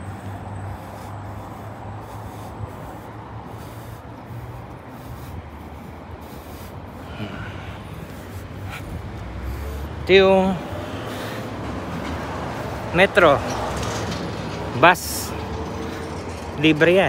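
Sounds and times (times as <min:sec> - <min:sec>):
road traffic rumble: 0:00.0 - 0:17.0
street hiss: 0:00.0 - 0:17.0.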